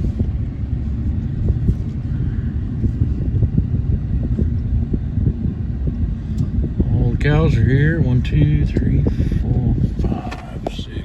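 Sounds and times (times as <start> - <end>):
farm vehicle engine rumbling: 0.0 - 11.0.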